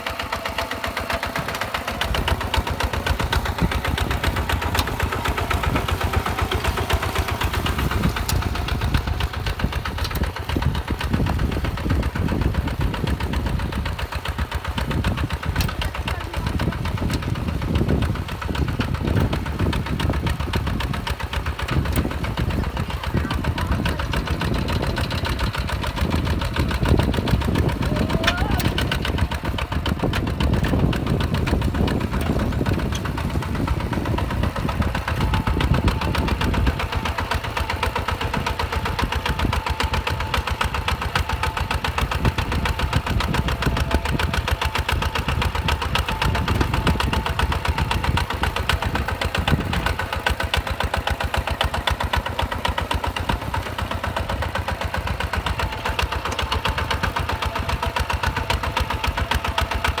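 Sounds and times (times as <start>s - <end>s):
diesel tractor engine knocking: 0.0s - 60.0s.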